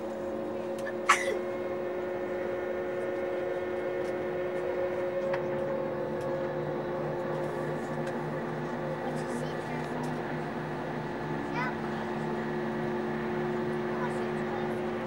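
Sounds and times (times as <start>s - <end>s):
airliner cabin hum: 0.0s - 15.0s
pulsing low hum: 0.0s - 15.0s
steady tones: 0.0s - 15.0s.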